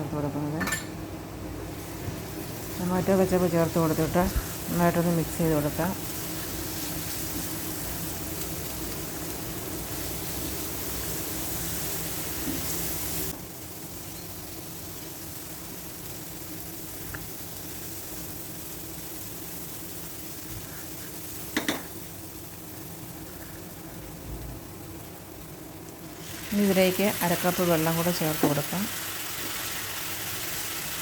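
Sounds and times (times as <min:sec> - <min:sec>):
food sizzling in oil: 0:01.7 - 0:31.0.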